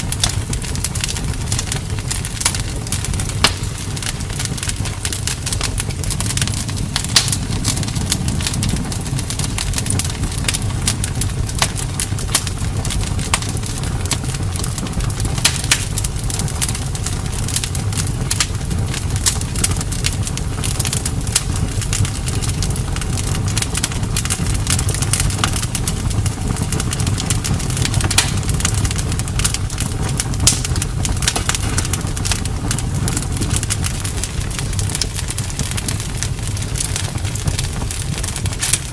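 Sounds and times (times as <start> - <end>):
bonfire wood crackling and popping: 0.0 - 38.9
low rumble of flames: 0.0 - 38.9.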